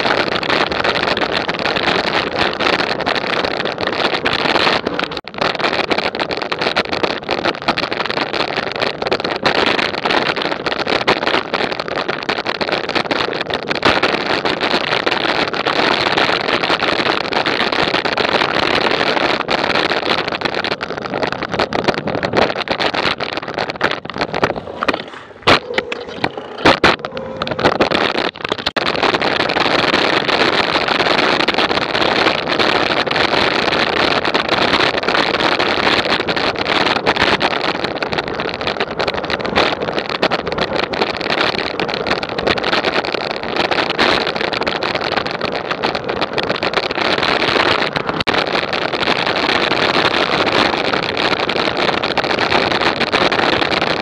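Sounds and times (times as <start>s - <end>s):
wind rushing on camera microphone: 0.0s - 54.0s.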